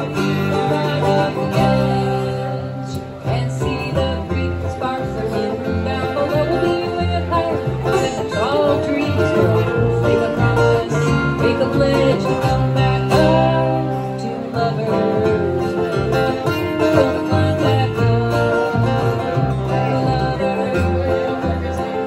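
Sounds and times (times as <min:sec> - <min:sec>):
acoustic guitars strumming: 0:00.0 - 0:22.0
plucked upright bass: 0:00.0 - 0:22.0.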